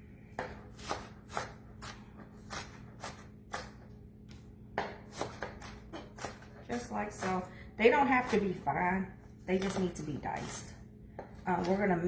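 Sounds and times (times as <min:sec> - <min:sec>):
knife chopping on board: 0:00.3 - 0:03.9, 0:04.7 - 0:08.7, 0:09.5 - 0:12.0.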